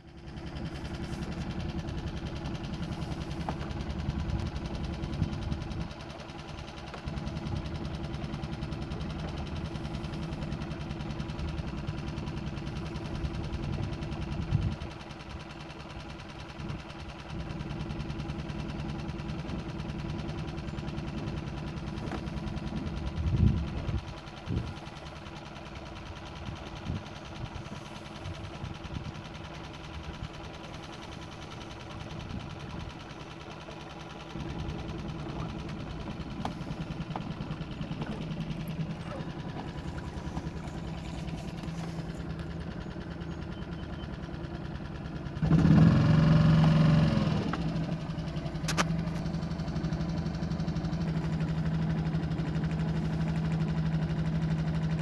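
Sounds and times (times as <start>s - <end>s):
boat motor putter: 0.0s - 55.0s.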